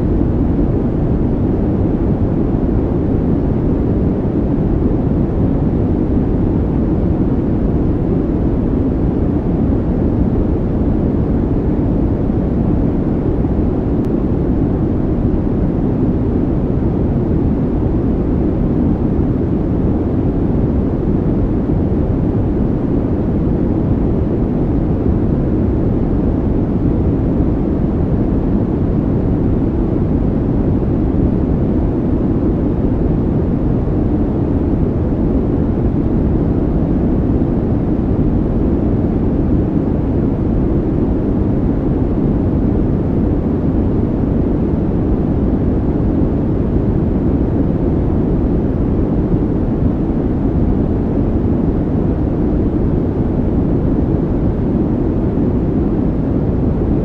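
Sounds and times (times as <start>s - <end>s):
steady low rumbling noise: 0.0s - 57.0s.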